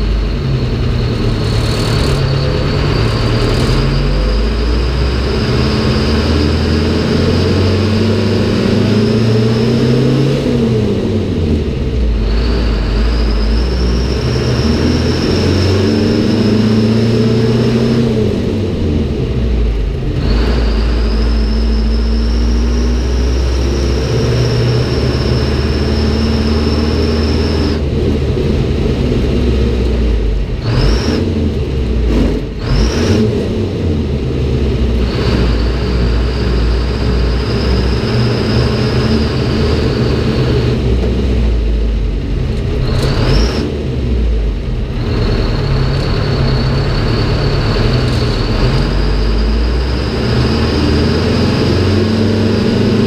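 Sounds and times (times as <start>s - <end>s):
fire truck engine whine: 0.0s - 53.0s.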